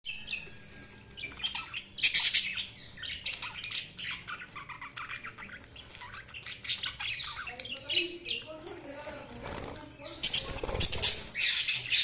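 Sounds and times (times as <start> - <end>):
budgerigars chirping and warbling: 0.1 - 12.0.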